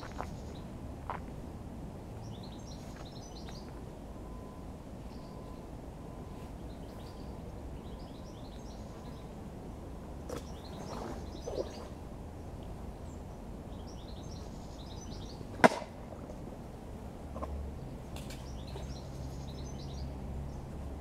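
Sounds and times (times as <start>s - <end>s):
songbirds twittering: 0.0s - 0.8s, 2.2s - 15.5s, 17.8s - 21.0s
low outdoor rumble: 0.0s - 21.0s.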